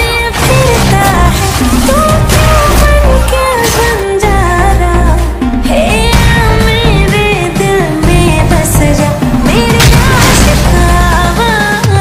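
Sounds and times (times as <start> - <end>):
pop dance music over speakers: 0.0 - 12.0.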